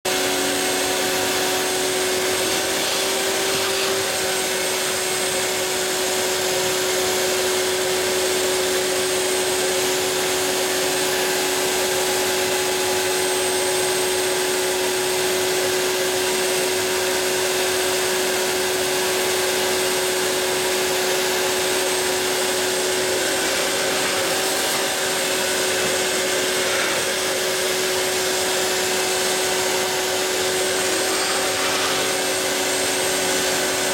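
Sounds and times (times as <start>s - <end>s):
router spindle whining: 0.1s - 33.9s.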